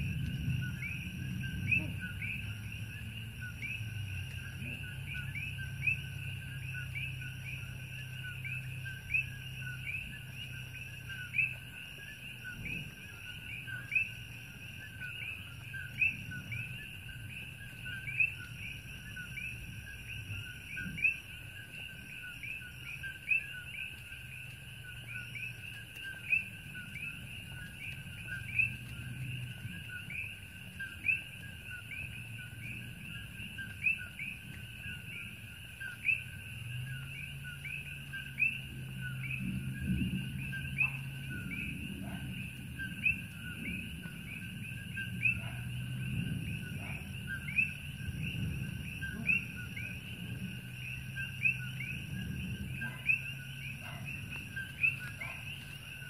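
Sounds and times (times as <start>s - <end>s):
frogs chirping: 0.0s - 56.0s.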